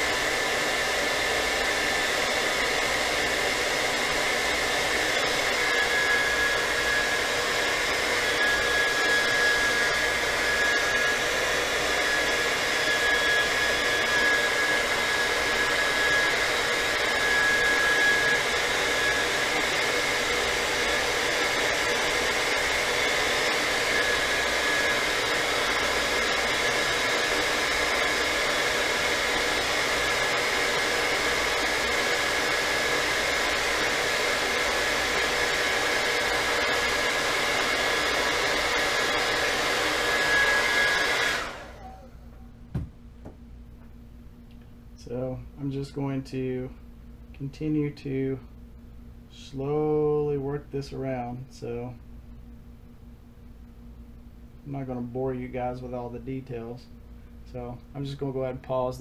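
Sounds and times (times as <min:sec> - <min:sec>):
hot-air blower running: 0:00.0 - 0:59.0.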